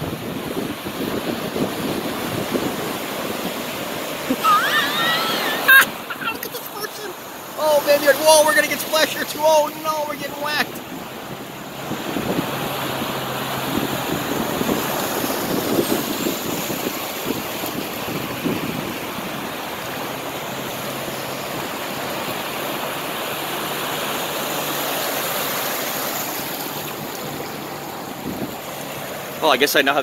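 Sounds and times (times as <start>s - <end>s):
floodwater surging and splashing: 0.0s - 30.0s.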